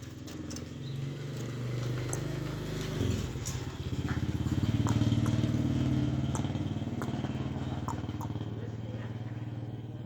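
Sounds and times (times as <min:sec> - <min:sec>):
motorcycle engine running: 0:00.1 - 0:10.0.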